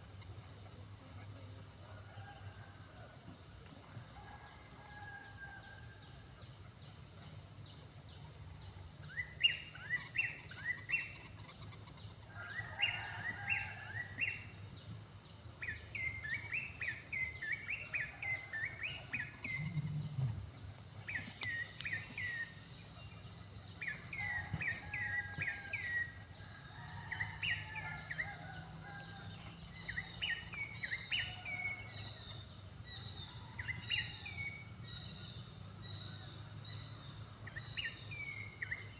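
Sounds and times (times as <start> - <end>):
insects buzzing and trilling: 0.0 - 38.9.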